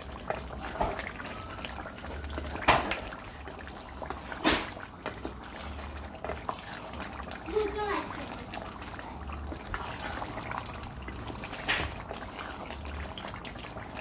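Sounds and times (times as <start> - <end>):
spoon stirring thick sauce: 0.0 - 14.0.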